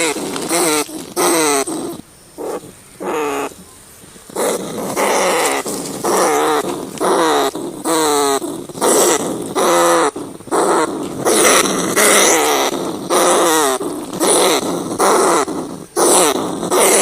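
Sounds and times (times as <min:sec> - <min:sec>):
rats squealing: 0:00.0 - 0:03.6, 0:04.3 - 0:17.0.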